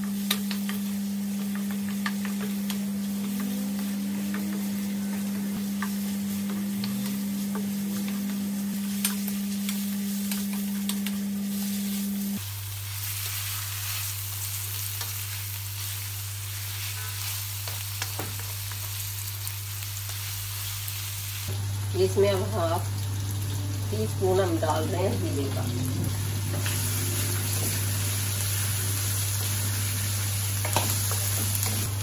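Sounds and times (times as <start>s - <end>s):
chicken sizzling in a wok: 0.0s - 32.0s.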